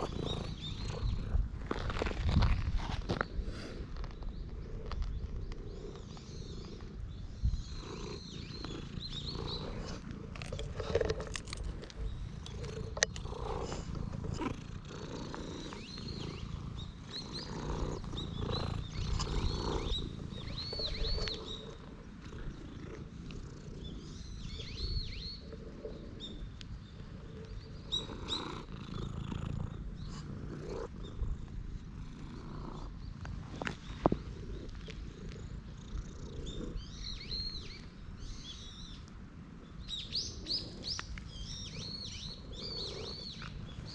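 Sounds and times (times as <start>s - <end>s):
cat purring: 0.0s - 37.9s, 40.1s - 43.9s.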